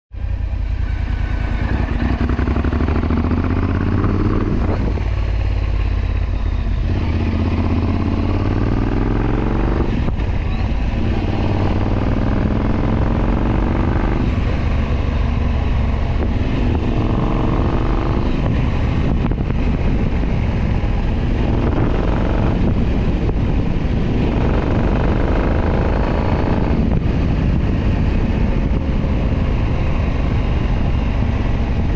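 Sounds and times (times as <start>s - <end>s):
motorcycle engine revving: 0.2s - 31.9s.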